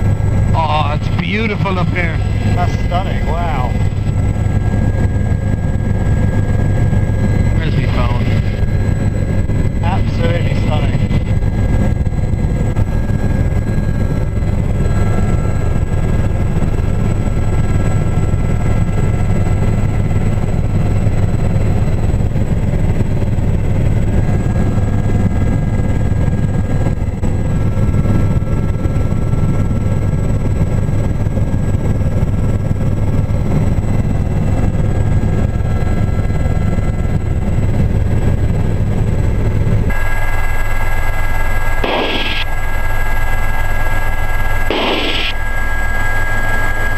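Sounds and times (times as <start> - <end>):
helicopter engine and rotors droning: 0.0 - 46.9.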